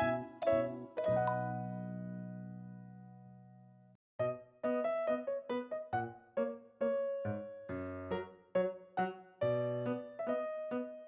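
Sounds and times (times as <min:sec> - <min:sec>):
piano tune: 0:00.0 - 0:03.5, 0:04.2 - 0:11.0.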